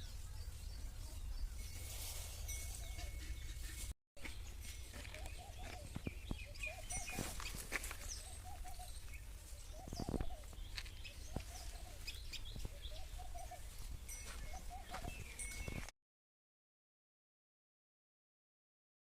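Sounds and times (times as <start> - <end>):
birds chirping: 0.0 - 1.9, 2.5 - 15.9.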